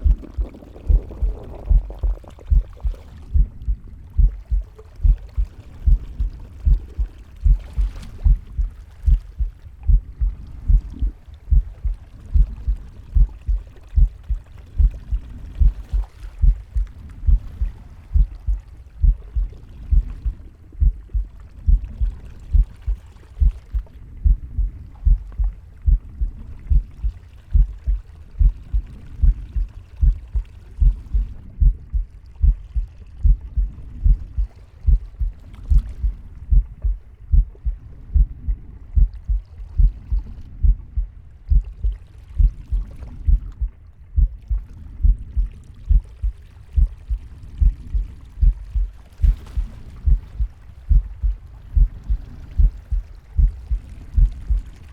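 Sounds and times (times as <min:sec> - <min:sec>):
heartbeat thumps: 0:00.0 - 0:54.8.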